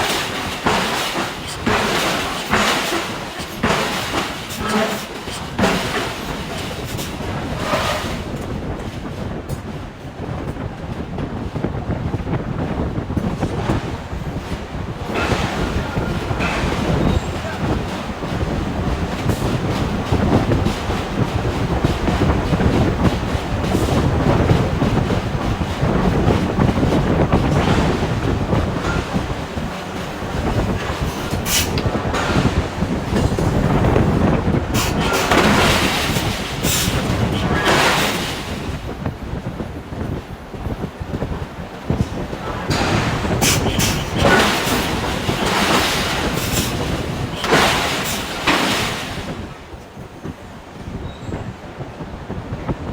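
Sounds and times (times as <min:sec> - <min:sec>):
heavy mechanical rumble and clatter: 0:00.0 - 0:52.9.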